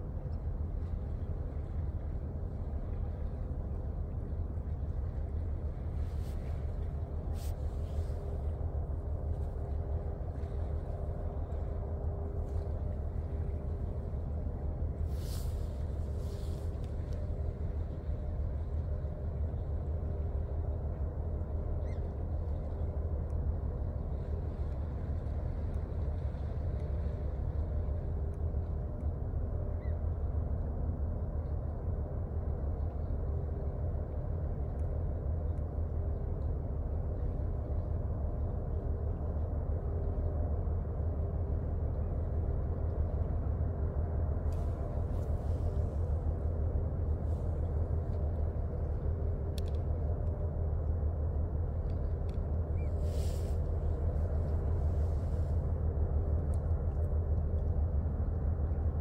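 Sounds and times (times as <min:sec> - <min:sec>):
ship machinery low rumble: 0:00.0 - 0:59.0.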